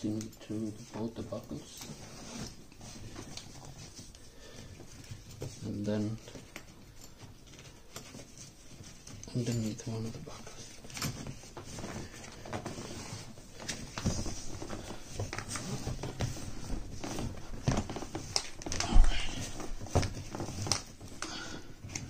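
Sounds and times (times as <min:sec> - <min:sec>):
plastic rustling: 0:00.0 - 0:22.0.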